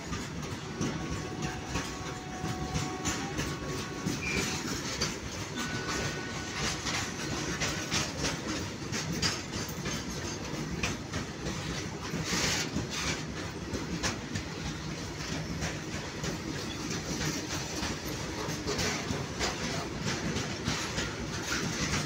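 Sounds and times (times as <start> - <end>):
freight train rumble: 0.0 - 22.0
wheels clattering over rail joints: 0.0 - 22.0.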